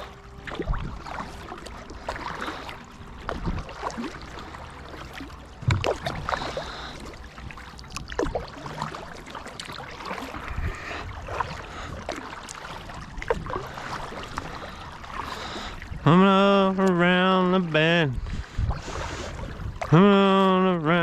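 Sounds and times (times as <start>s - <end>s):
water washing: 0.0s - 21.0s.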